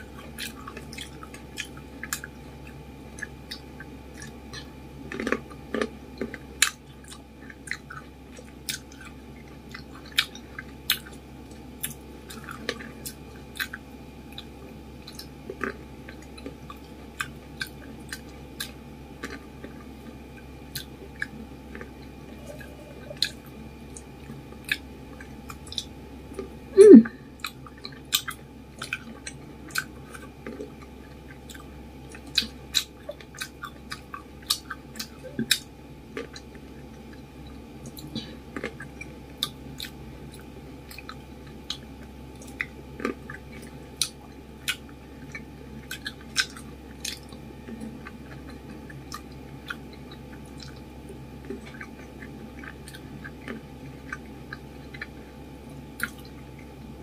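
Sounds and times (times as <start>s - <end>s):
chewing grapes: 0.0s - 57.0s.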